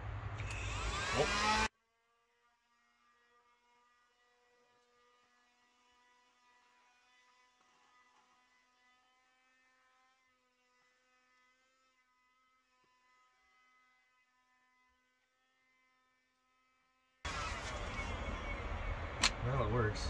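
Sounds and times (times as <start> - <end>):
handheld vacuum cleaner hum: 0.0 - 1.7, 2.8 - 18.5.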